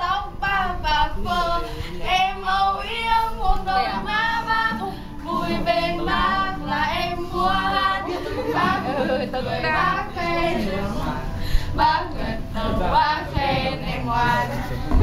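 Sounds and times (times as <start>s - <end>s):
group of voices singing unaccompanied: 0.0s - 15.0s.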